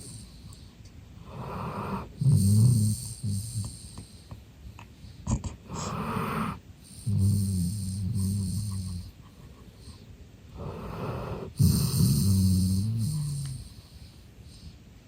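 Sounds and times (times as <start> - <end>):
dog snoring: 0.0 - 0.6, 1.2 - 4.4, 5.3 - 14.8
dog breathing: 0.0 - 15.0.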